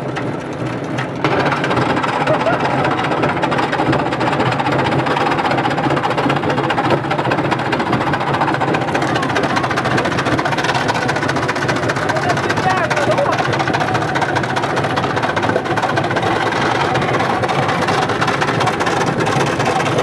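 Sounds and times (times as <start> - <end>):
fire rushing and crackling: 0.0 - 20.0.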